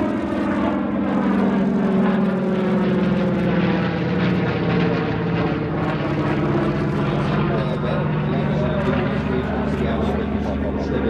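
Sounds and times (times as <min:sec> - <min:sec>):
propeller plane droning overhead: 0:00.0 - 0:11.0.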